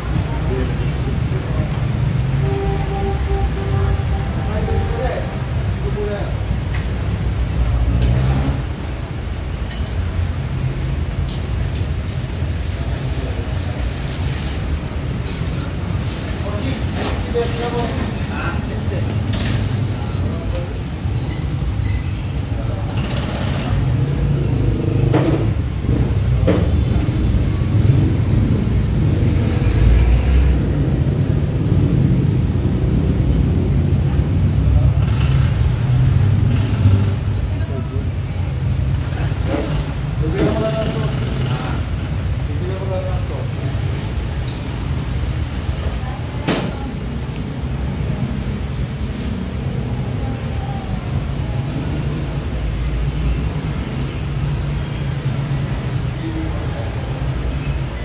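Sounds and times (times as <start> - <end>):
street noise low rumble: 0.0 - 58.0.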